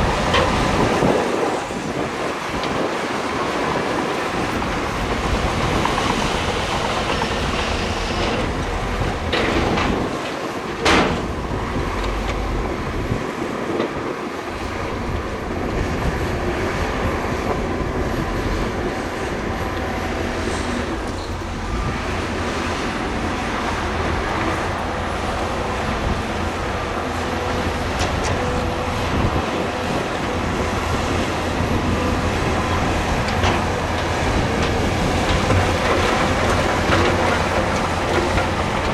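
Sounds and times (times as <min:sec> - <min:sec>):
continuous clattering rattle: 0:00.0 - 0:38.9
heavy machinery engine rumble: 0:00.0 - 0:38.9.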